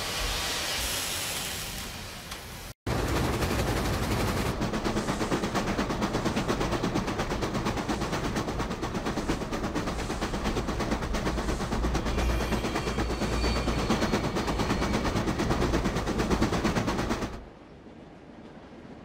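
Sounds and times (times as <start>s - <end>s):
steam locomotive exhaust chuffing: 0.0s - 17.4s.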